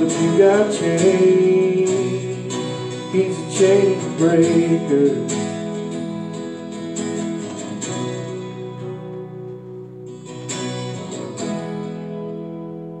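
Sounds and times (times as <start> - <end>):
acoustic guitars strumming chords: 0.0 - 13.0.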